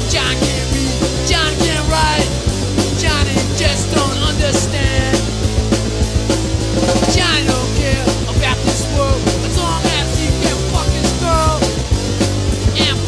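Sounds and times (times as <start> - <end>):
drum kit beat: 0.0 - 13.0
rock music: 0.0 - 13.0.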